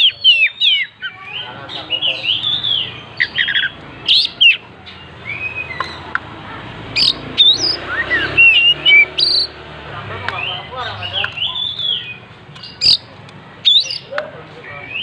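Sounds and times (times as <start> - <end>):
magpie-robin whistling song: 0.0 - 6.1, 7.0 - 9.6, 10.3 - 15.0.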